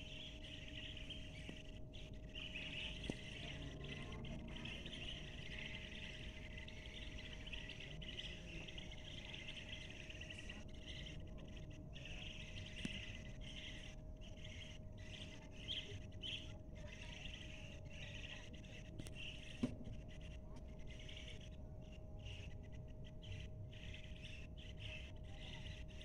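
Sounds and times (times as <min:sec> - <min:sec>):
flock of small birds chirping: 0:00.0 - 0:26.0.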